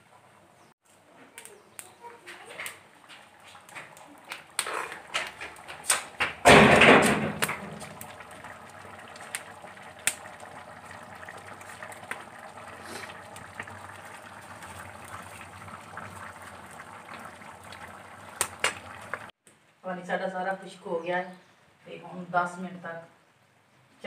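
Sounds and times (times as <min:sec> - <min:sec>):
rice and water simmering in pan: 0:00.0 - 0:19.4
crackling wood fire: 0:00.0 - 0:19.6.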